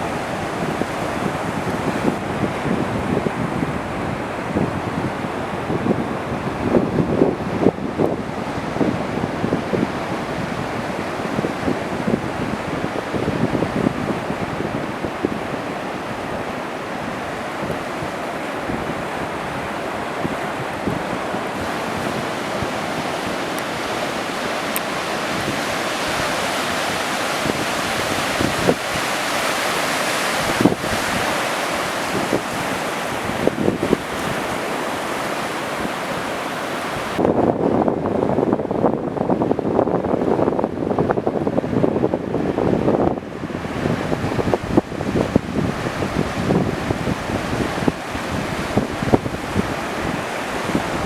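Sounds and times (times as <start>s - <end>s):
ocean surf rushing: 0.0s - 51.0s
wind buffeting microphone: 0.0s - 51.0s.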